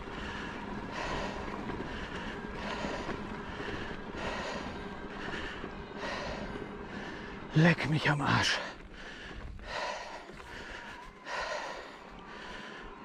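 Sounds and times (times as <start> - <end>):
rider breathing hard: 0.0 - 7.7, 8.3 - 13.0
tyres rumbling: 0.0 - 13.0.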